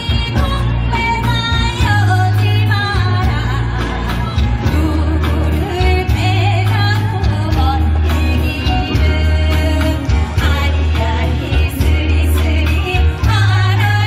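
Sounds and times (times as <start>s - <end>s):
amplified accompaniment with deep bass: 0.0s - 14.0s
woman singing with vibrato: 0.0s - 14.0s.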